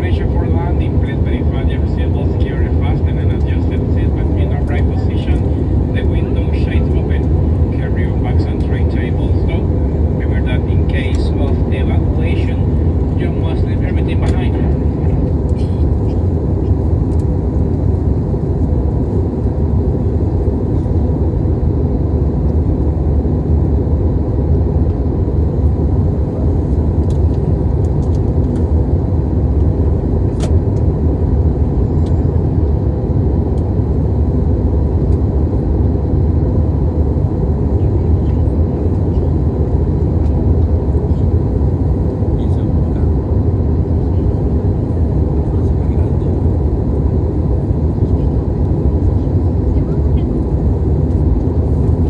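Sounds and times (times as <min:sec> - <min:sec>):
airliner cabin rumble: 0:00.0 - 0:52.0.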